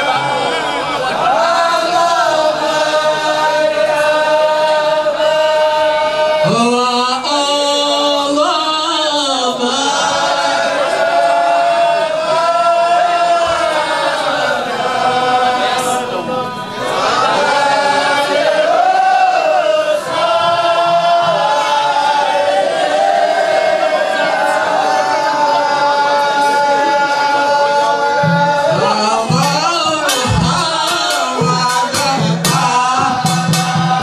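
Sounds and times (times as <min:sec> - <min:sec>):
men chanting together: 0:00.0 - 0:34.0.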